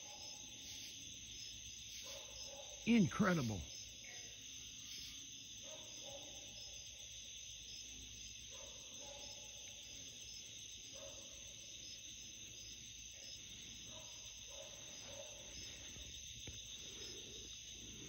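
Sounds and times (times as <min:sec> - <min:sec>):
crickets trilling: 0:00.0 - 0:18.0
lower insect call: 0:00.0 - 0:18.0.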